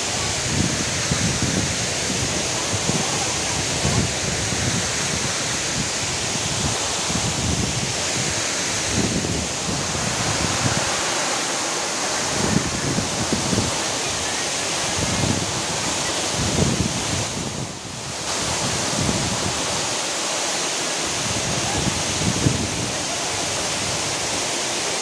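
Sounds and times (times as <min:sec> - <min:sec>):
wind rumble on microphone: 0:00.0 - 0:11.0, 0:12.2 - 0:19.9, 0:21.1 - 0:24.4
waterfall rushing: 0:00.0 - 0:25.0.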